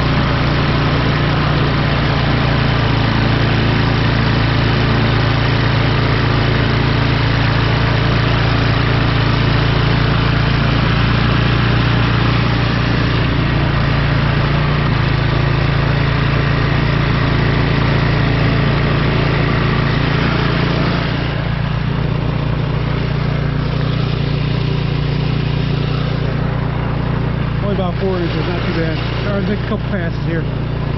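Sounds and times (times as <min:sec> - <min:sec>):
snowblower engine running: 0:00.0 - 0:30.9.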